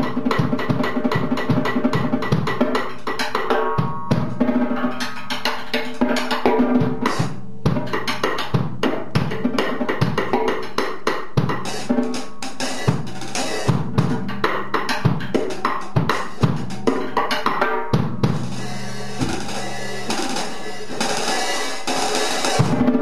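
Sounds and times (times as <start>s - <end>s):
drum strokes on toms and snare: 0.0s - 23.0s.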